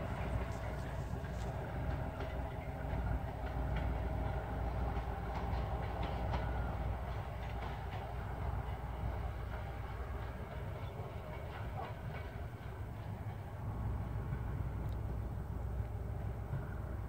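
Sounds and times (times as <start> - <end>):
train wheels clicking on rail joints: 0.0 - 17.0.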